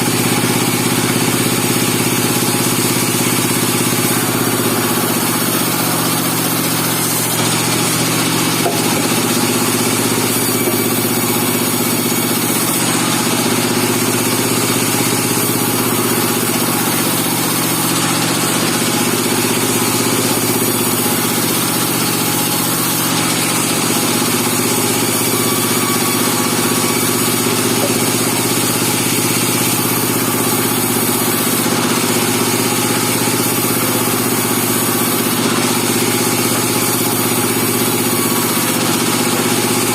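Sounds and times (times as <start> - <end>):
sawmill engine hum: 0.0 - 39.9.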